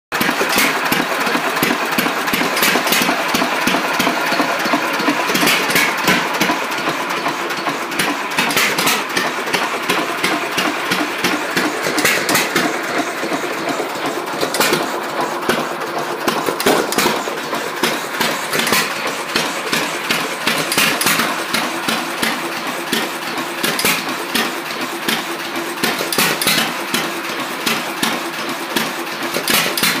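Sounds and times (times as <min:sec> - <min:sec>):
single-cylinder engine firing: 0:00.2 - 0:30.0.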